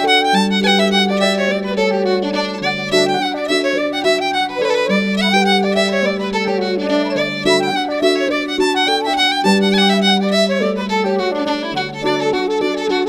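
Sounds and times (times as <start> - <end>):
flute: 0.0 - 13.0
harp: 0.0 - 13.0
violin melody with vibrato: 0.0 - 13.0.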